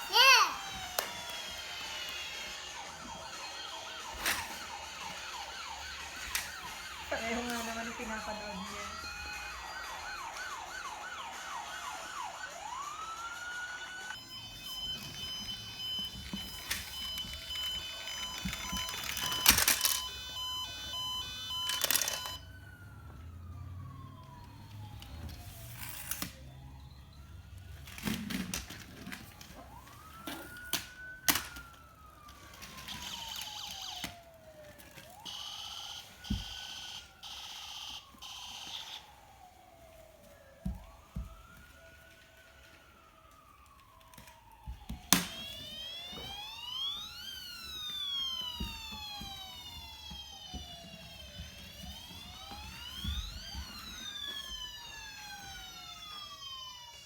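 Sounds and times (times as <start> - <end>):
toy electronic siren wailing: 0.0 - 57.0.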